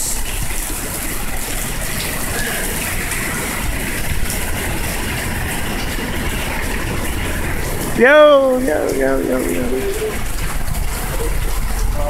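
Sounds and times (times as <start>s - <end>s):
pouring rain hiss: 0.0s - 12.0s
bus engine rumbling: 0.8s - 12.0s.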